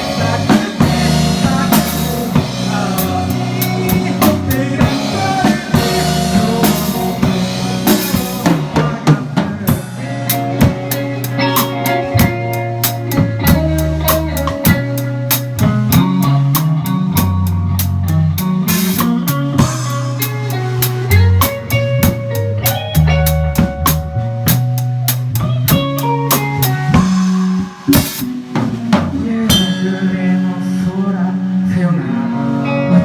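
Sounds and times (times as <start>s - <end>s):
drum kit beat: 0.0s - 31.6s
live band instrumental: 0.0s - 33.0s.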